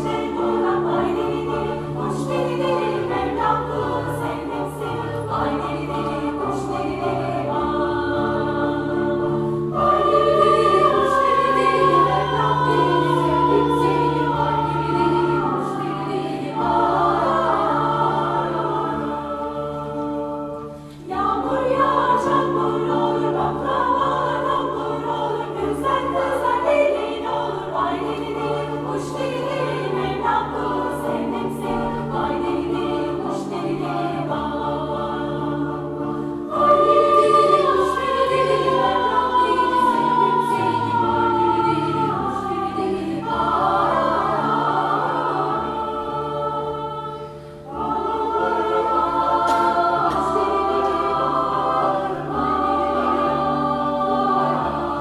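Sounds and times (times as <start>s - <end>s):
choir singing folk song: 0.0s - 55.0s
piano accompaniment: 0.0s - 55.0s.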